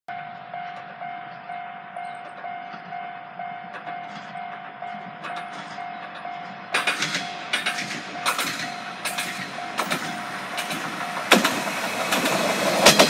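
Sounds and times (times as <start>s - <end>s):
level crossing warning bell: 0.1s - 11.8s.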